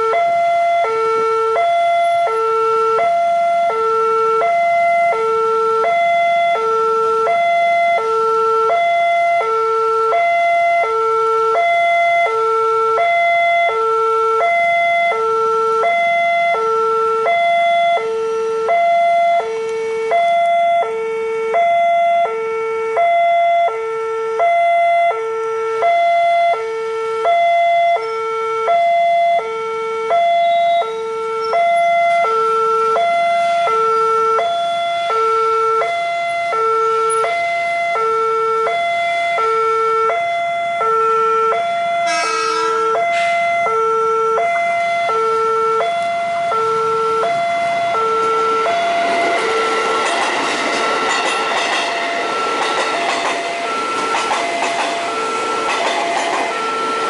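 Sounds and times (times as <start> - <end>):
level crossing two-tone alarm: 0.0 - 57.0.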